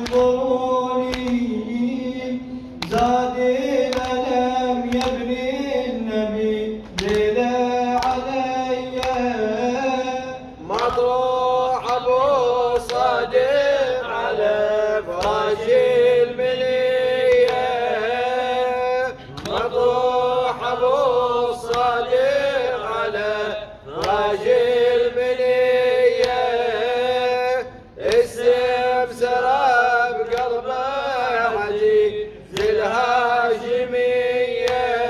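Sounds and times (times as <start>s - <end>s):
men chanting: 0.0s - 35.0s.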